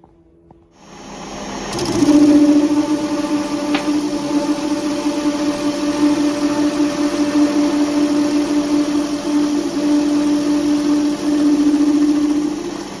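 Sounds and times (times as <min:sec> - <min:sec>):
metal lathe humming: 0:00.8 - 0:13.0.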